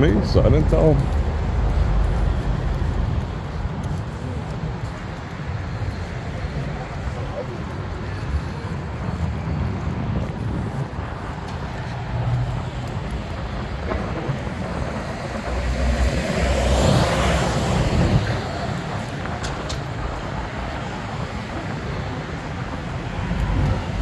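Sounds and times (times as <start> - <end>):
cars passing: 0.0 - 24.0
wind on microphone: 0.0 - 24.0.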